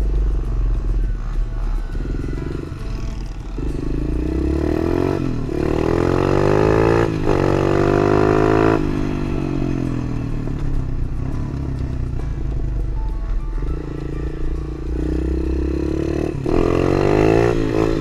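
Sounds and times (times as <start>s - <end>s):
small motorbike engine accelerating: 0.0s - 12.7s, 13.8s - 18.0s.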